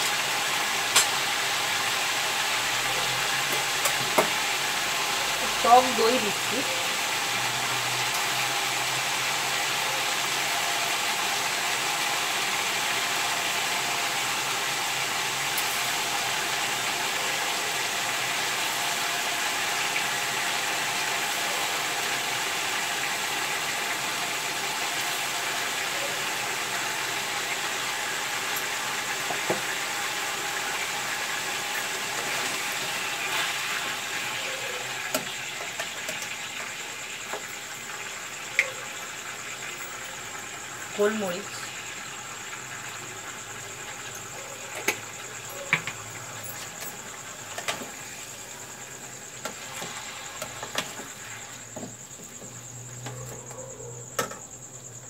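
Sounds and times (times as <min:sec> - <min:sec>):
chicken sizzling in frying pan: 0:00.0 - 0:53.4.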